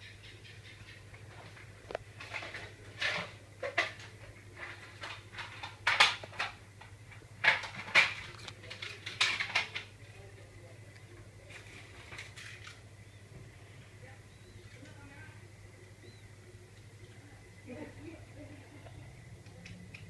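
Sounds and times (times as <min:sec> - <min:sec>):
fan motor humming: 0:00.0 - 0:20.0.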